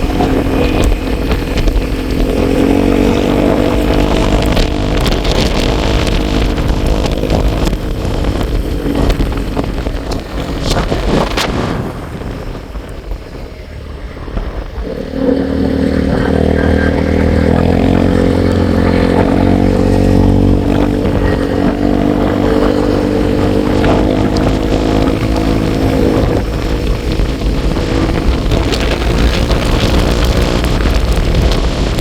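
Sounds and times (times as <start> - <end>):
motorcycle engine running: 0.0 - 32.0
wind on microphone: 0.0 - 32.0.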